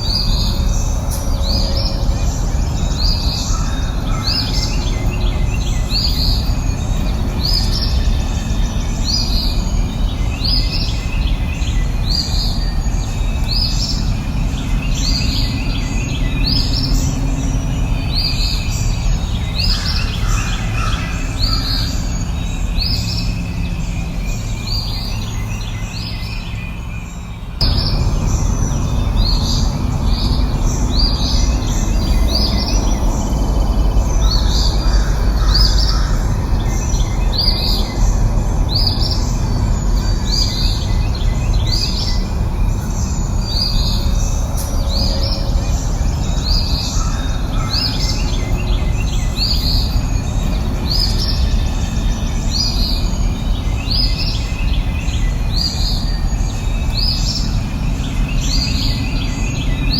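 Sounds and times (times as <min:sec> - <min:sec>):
birds chirping: 0:00.0 - 0:59.9
low background rush: 0:00.0 - 0:59.9.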